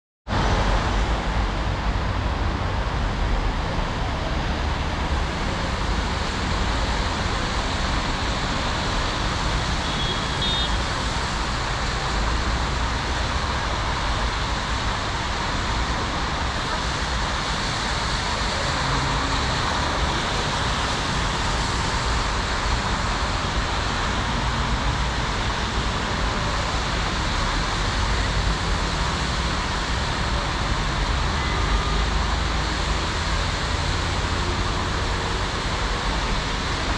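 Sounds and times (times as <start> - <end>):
road traffic noise: 0.3 - 36.9.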